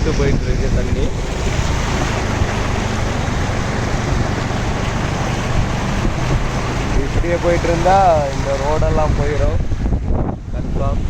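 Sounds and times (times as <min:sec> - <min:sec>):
low engine hum: 0:00.0 - 0:11.0
wind over microphone: 0:00.0 - 0:11.0.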